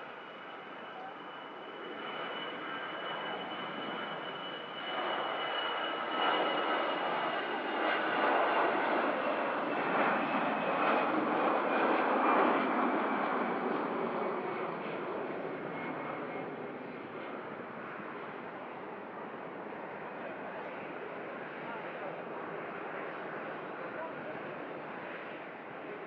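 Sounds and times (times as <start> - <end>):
jet airliner engines passing: 0.0 - 26.0.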